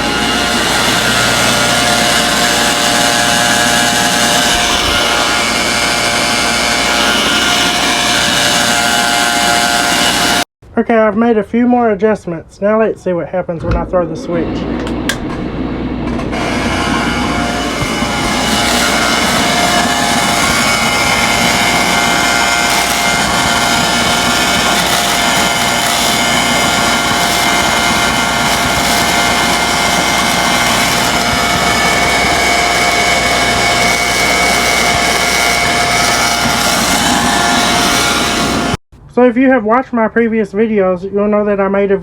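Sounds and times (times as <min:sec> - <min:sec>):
spark gap buzzing: 0:00.0 - 0:10.5, 0:14.8 - 0:38.8.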